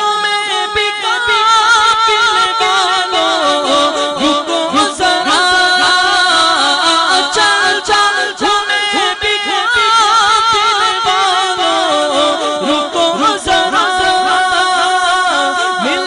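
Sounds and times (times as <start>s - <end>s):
devotional singing: 0.0s - 16.0s.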